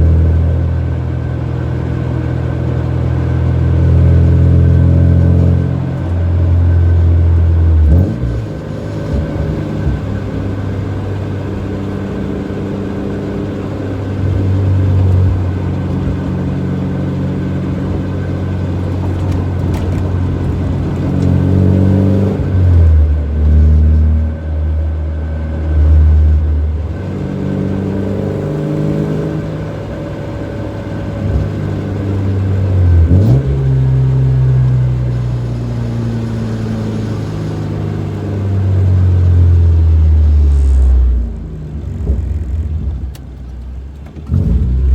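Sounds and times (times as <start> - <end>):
car engine revving in cabin: 0.0 - 44.9.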